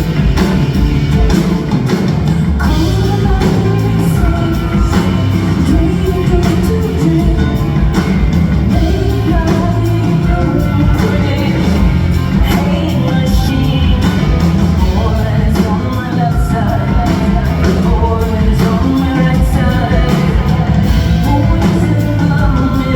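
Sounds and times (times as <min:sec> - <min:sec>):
live rock band: 0:00.0 - 0:22.9
woman singing: 0:00.1 - 0:22.9.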